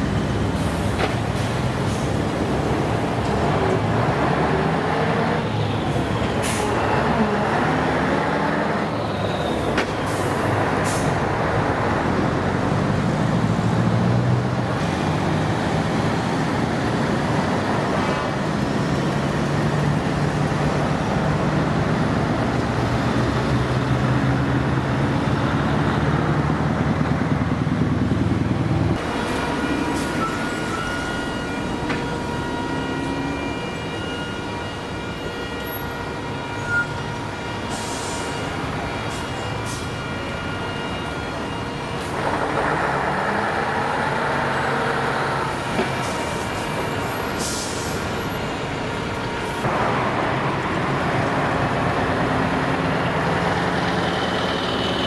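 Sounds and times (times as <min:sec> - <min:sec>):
diesel truck engine rumbling: 0:00.0 - 0:55.0.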